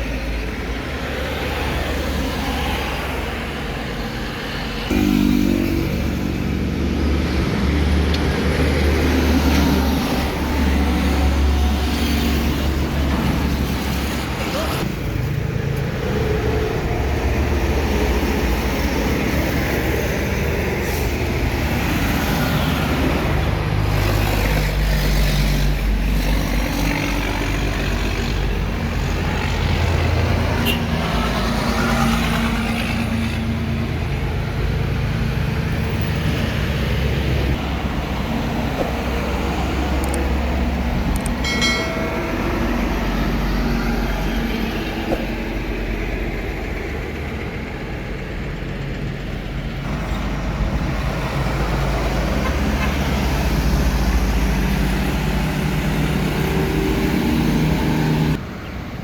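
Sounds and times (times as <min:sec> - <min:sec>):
heavy traffic passing: 0:00.0 - 0:59.0.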